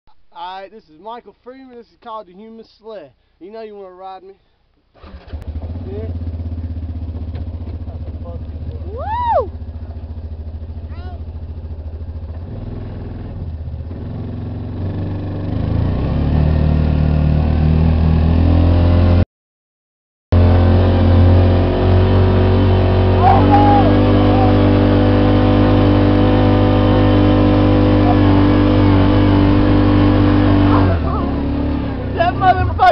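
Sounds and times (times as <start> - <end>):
vehicle engine: 5.0 - 19.2, 20.3 - 32.9.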